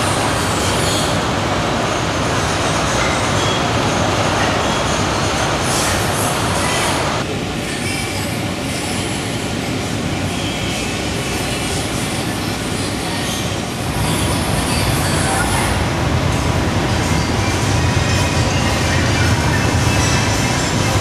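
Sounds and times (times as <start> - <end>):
muffled jet engine rumble: 0.0 - 7.6, 8.5 - 21.0
faint jet engine whine: 0.0 - 21.0.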